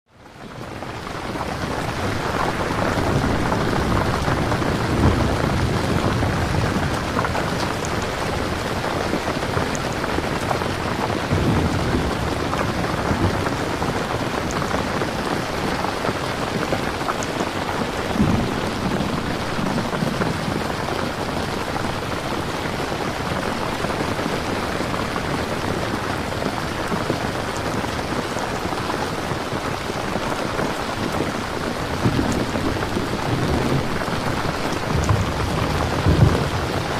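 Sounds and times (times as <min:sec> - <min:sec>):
heavy rain falling: 0:00.1 - 0:36.9.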